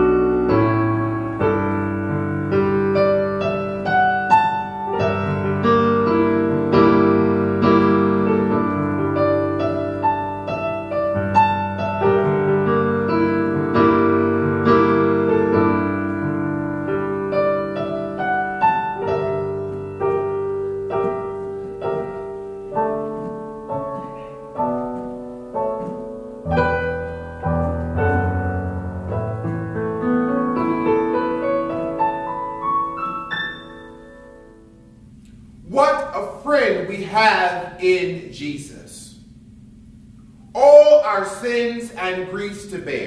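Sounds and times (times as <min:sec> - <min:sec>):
slow piano piece: 0:00.0 - 0:43.0.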